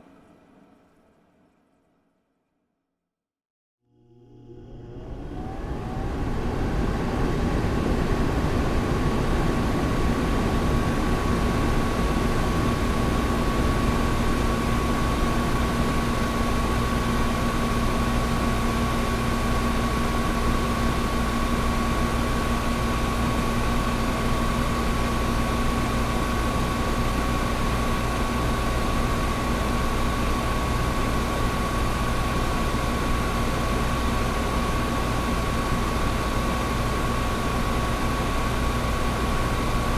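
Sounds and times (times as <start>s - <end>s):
window air conditioner running: 4.0s - 39.9s.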